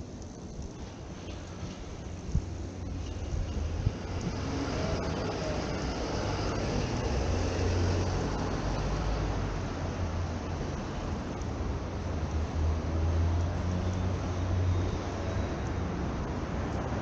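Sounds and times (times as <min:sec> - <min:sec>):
passing vehicle: 0:03.0 - 0:17.0.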